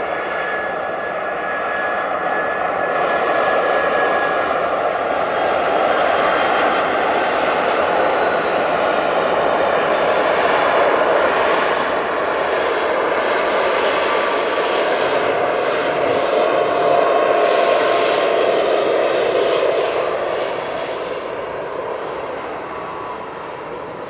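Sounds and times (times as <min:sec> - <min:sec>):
jet engine rush with whine: 0:00.0 - 0:24.0.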